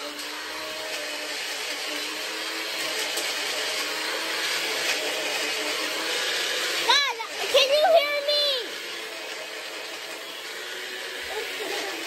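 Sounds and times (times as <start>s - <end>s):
electric blender running: 0.0s - 12.0s.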